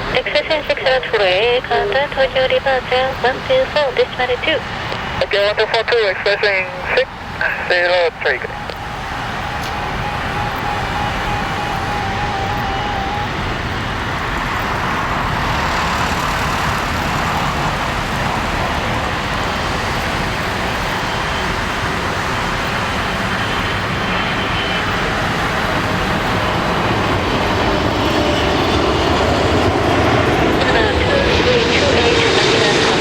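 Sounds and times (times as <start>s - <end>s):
jet engines rushing: 0.0s - 33.0s.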